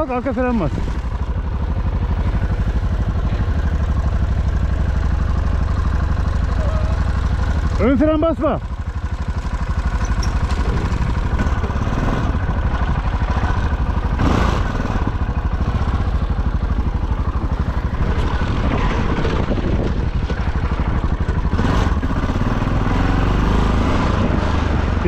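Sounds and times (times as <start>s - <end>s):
motorcycle engine running at low revs: 0.0s - 25.0s.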